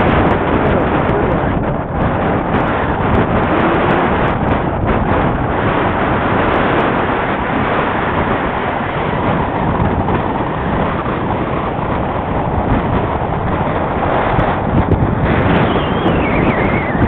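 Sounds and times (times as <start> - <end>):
air rushing over microphone: 0.0 - 17.0.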